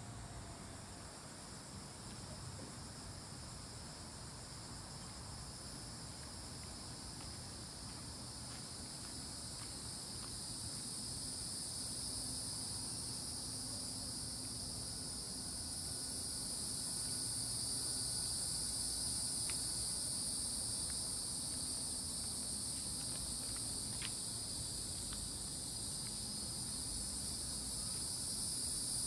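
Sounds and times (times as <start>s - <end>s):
insects chorus: 0.0s - 29.0s
low background noise: 0.0s - 29.0s.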